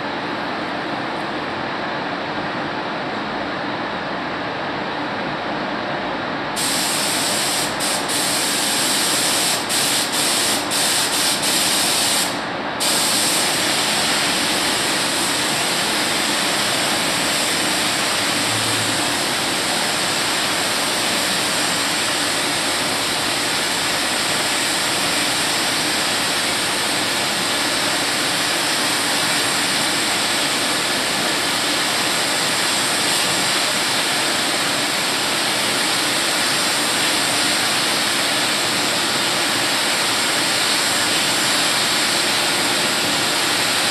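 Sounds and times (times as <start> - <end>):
paint spray gun hissing: 6.6 - 39.1, 39.8 - 43.9.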